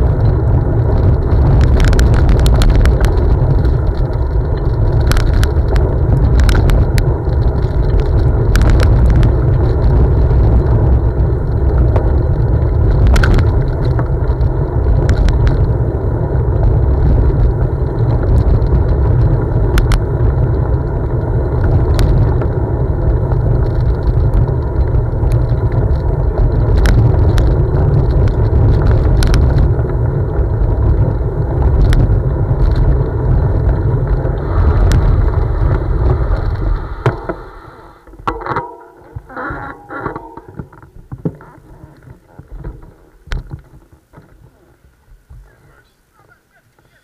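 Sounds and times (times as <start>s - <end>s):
wind buffeting microphone: 0.0s - 46.4s
bike tyres rolling on gravel: 0.0s - 47.0s.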